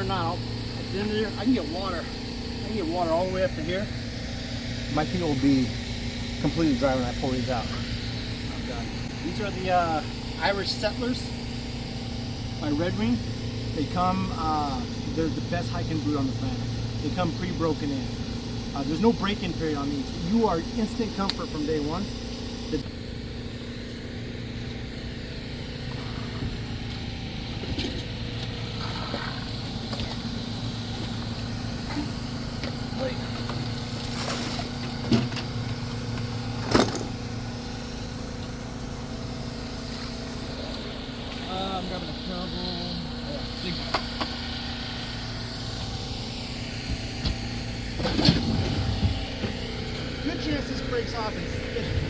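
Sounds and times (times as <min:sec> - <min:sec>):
engine droning: 0:00.0 - 0:52.0.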